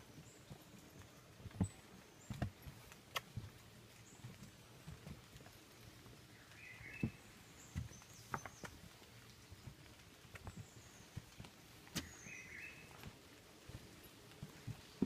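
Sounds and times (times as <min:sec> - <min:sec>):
footsteps on wooden boardwalk: 0:00.0 - 0:15.0.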